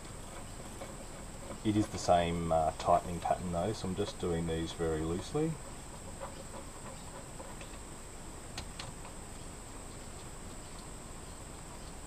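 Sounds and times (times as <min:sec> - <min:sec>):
high-pitched background hiss: 0:00.0 - 0:12.0.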